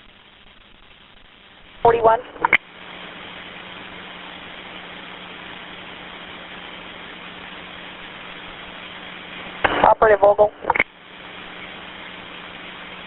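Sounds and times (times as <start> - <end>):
radio channel hiss: 0.0 - 13.0.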